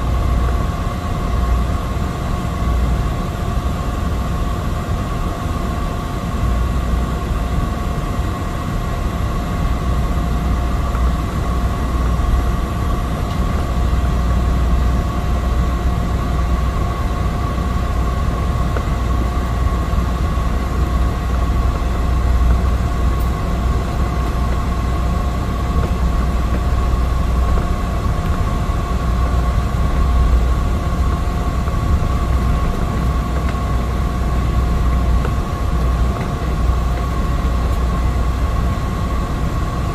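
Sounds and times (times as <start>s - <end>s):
turboprop engine rumbling with whine: 0.0s - 39.9s.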